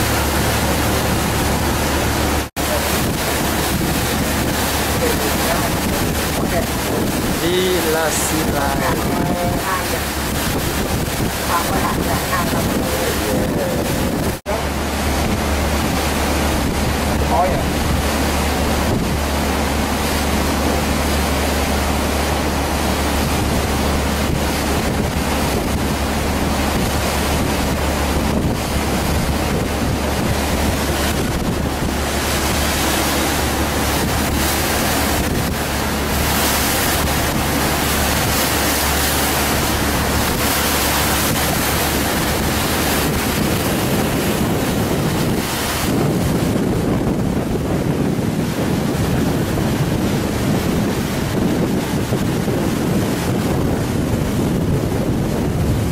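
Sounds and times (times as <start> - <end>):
low boat drone: 0.0 - 55.9
wind buffeting microphone: 0.0 - 55.9.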